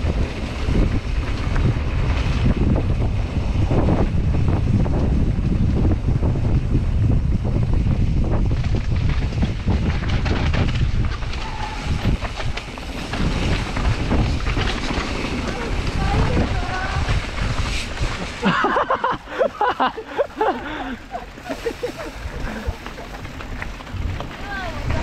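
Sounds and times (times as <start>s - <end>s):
mountain bike rumbling and rattling: 0.0s - 25.0s
wind buffeting microphone: 0.0s - 25.0s.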